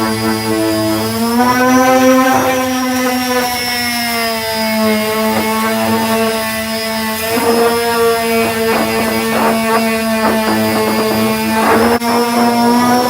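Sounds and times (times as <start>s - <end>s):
disc sander motor whine: 0.0s - 13.0s
sanding disc scratching: 0.0s - 13.0s.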